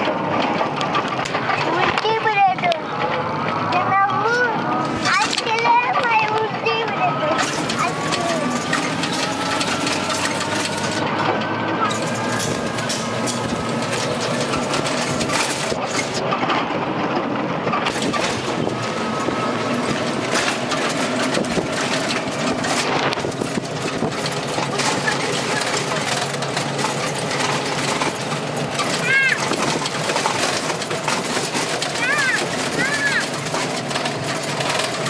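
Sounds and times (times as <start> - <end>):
engine and road noise inside vehicle: 0.0 - 35.0
vehicle body rattles and knocks: 0.0 - 35.0.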